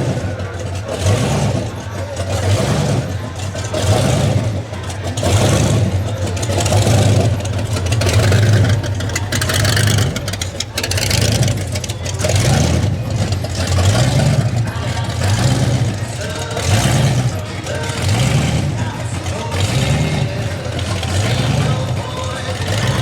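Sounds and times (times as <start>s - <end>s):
car engine rumbling: 0.0s - 23.0s
faint background chatter: 0.0s - 23.0s.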